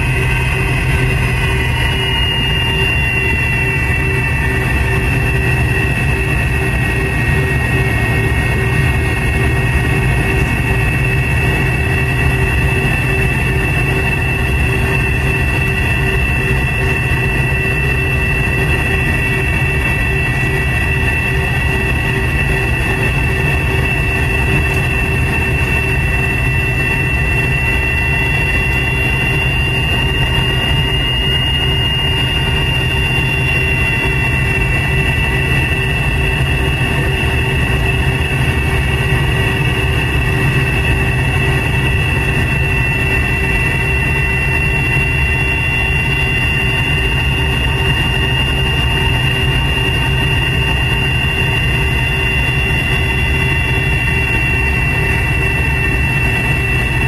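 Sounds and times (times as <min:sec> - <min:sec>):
high jet engine whine: 0:00.0 - 0:57.0
low engine rumble: 0:00.0 - 0:57.0.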